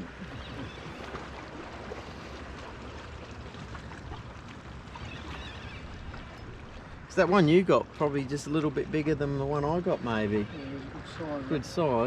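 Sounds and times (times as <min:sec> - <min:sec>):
water on a boat: 0:00.0 - 0:12.0
wind: 0:00.0 - 0:12.0.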